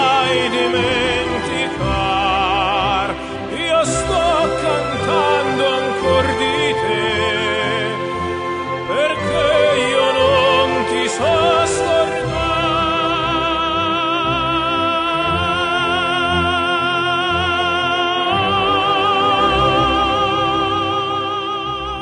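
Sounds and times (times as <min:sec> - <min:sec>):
pop-opera song with vibrato: 0:00.0 - 0:22.0.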